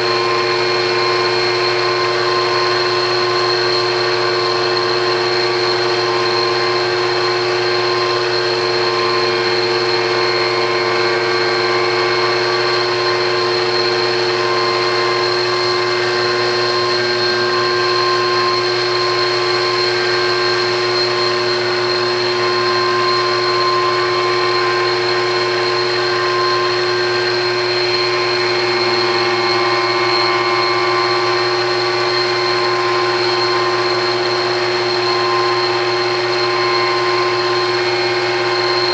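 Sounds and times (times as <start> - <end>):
lathe cutter machine whir: 0.0 - 38.9.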